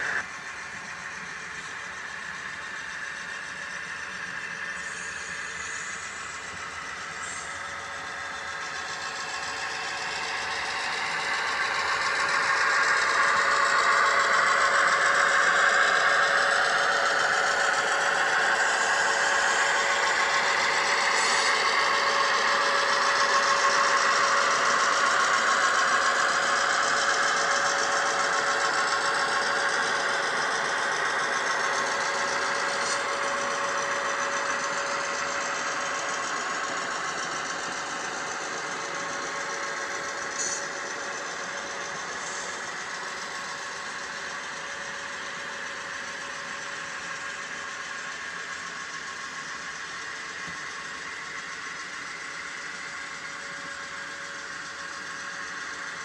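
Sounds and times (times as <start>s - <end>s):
model train running on track: 0.0s - 56.0s.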